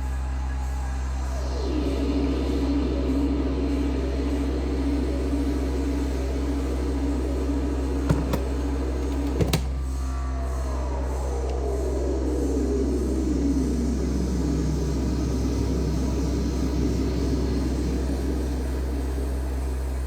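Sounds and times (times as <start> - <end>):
synthesizer drone: 1.0 - 20.0.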